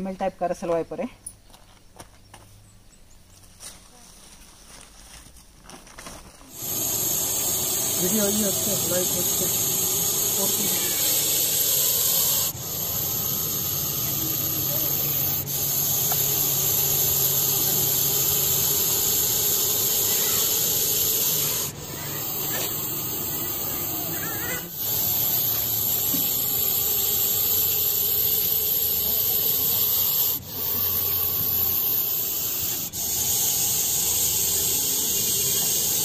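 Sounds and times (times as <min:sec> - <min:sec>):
snake hissing loudly: 0:06.5 - 0:36.0.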